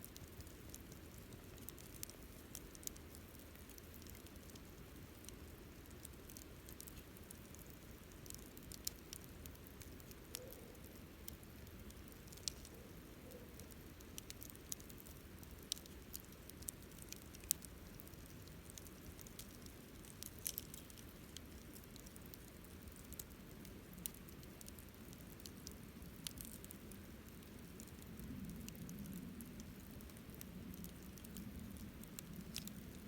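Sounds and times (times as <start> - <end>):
faint low hiss: 0.0 - 33.0
wood fire crackling and popping: 0.0 - 33.0.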